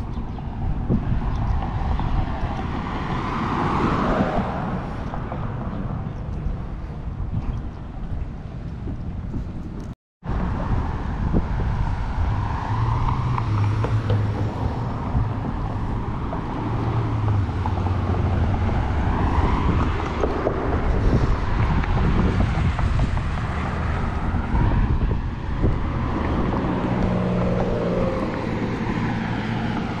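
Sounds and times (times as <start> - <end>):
cars passing on road: 0.0 - 30.0.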